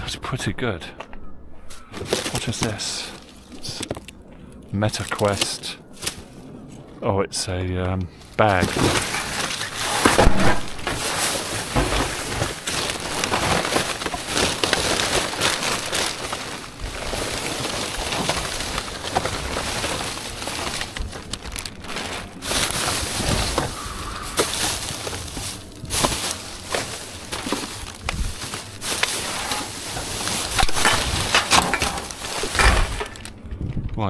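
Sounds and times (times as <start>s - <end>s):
small crackles and knocks: 1.0s - 34.0s
rubbish crinkling and rustling: 1.7s - 34.0s.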